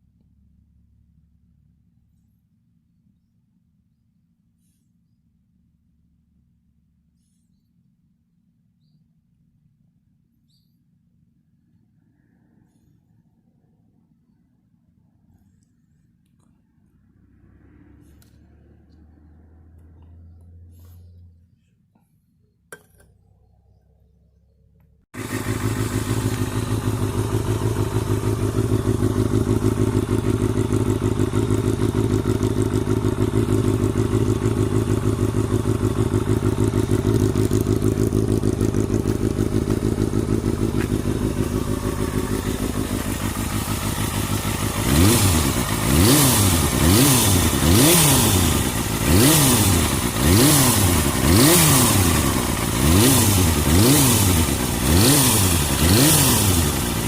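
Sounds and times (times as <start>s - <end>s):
motorcycle engine idling and revving: 10.5s - 57.0s.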